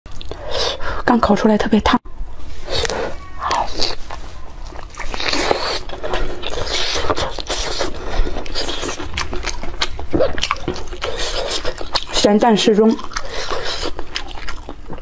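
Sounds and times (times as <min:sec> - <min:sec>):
person chewing wet mouth clicks: 0:00.1 - 0:00.4, 0:02.8 - 0:15.0.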